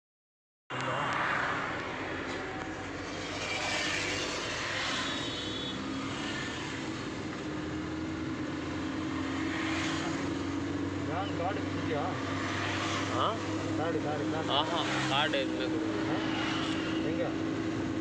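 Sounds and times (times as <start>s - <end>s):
car engine inside cabin: 0.7s - 18.0s
road noise: 0.7s - 18.0s.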